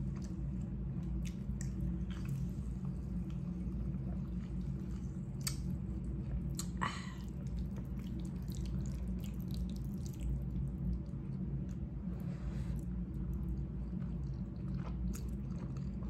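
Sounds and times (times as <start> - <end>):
wet chewing sounds: 0.0 - 11.8, 13.1 - 16.0
steady low hum: 0.0 - 16.0.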